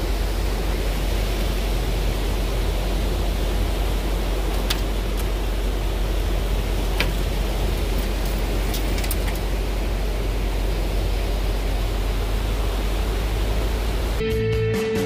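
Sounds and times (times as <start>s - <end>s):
surf breaking: 0.0s - 14.2s
wind buffeting microphone: 0.0s - 14.2s.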